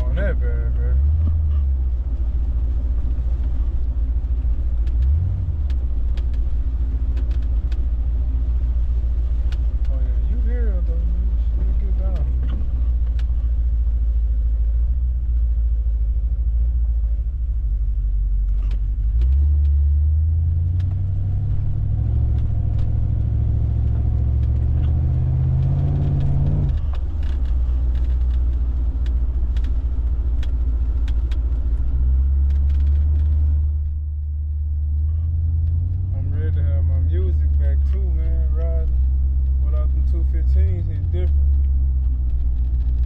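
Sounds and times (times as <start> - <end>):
car engine and exhaust droning: 0.0 - 43.0.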